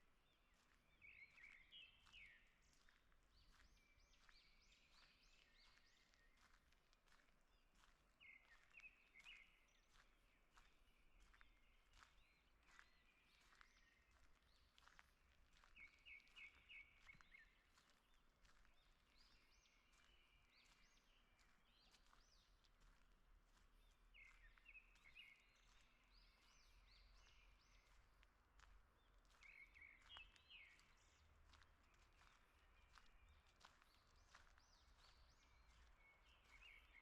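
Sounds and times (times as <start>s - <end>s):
faint songbirds chirping: 0.0s - 37.0s.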